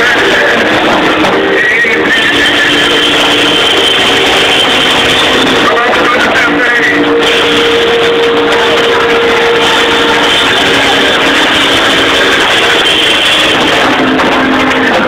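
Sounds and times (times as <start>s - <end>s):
drum kit playing: 0.0s - 15.0s
electric organ sustained chords: 0.0s - 15.0s.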